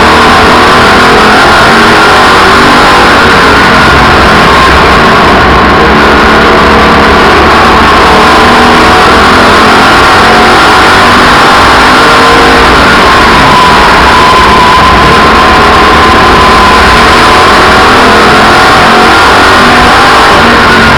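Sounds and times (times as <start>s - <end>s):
race car engines at speed: 0.0s - 20.9s.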